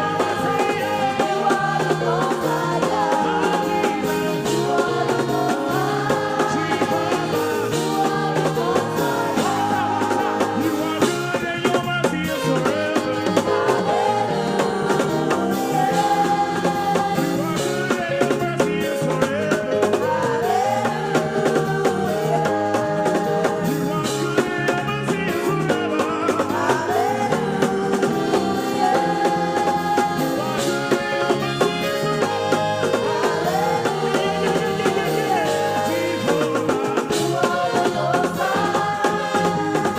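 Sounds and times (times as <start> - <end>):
band playing gospel music: 0.0 - 39.9
people singing: 0.0 - 39.9
steady drum beat: 0.0 - 39.9.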